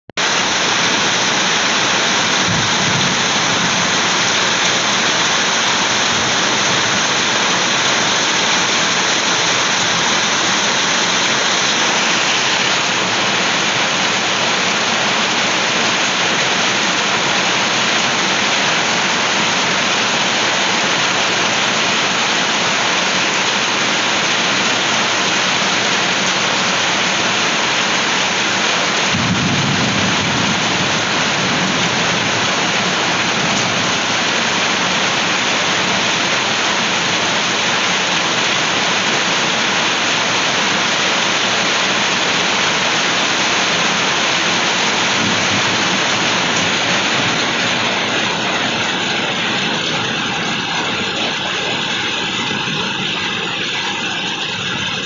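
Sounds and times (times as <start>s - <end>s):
heavy rain falling: 0.1s - 55.0s.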